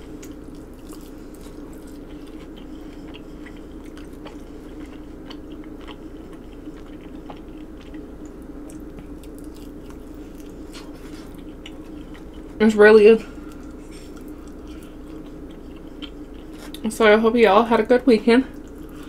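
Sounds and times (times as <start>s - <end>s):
wet chewing and mouth clicks: 0.2s - 12.6s, 13.4s - 16.8s.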